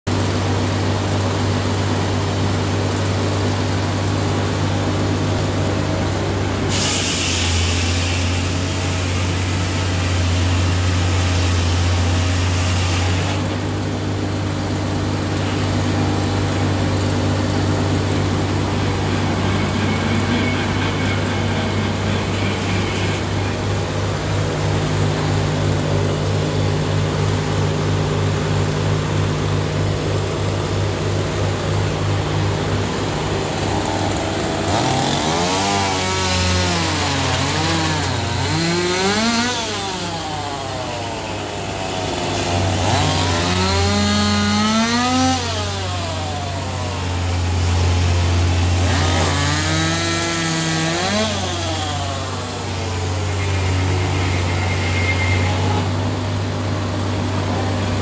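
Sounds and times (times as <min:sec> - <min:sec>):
saw blade whine cutting log: 0:00.1 - 0:58.0
sawmill engine hum: 0:00.1 - 0:58.0.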